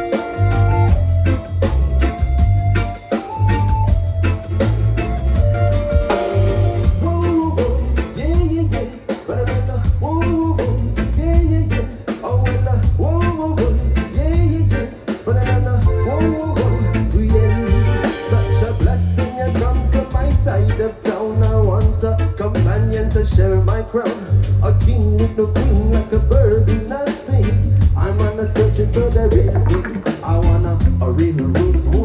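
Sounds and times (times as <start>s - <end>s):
live rock band playing: 0.0s - 32.0s
person singing: 6.1s - 32.0s.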